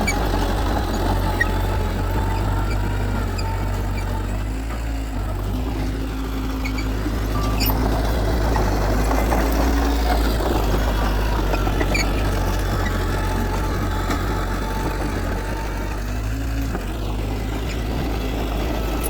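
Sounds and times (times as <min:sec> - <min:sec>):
heavy diesel machinery rumbling: 0:00.0 - 0:19.0.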